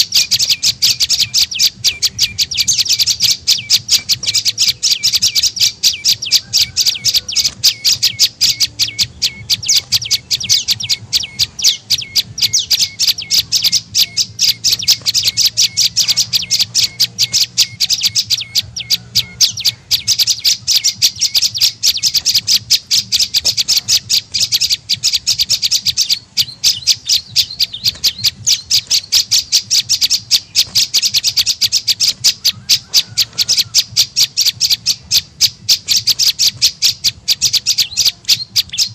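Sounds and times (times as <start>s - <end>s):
bird chattering call: 0.0s - 38.9s.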